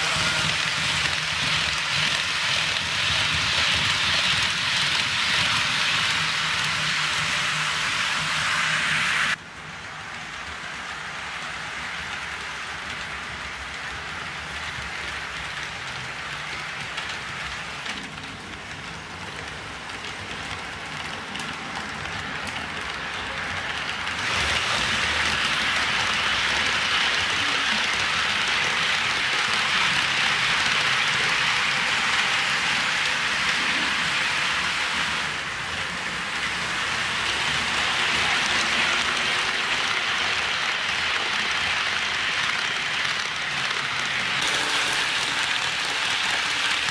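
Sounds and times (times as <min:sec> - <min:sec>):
model train wheels rattling on rails: 0:00.0 - 0:08.6, 0:10.0 - 0:46.9.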